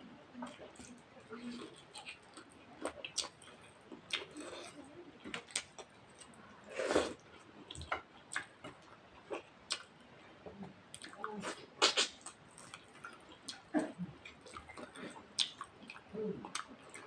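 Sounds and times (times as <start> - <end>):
person chewing food: 0.4 - 17.0.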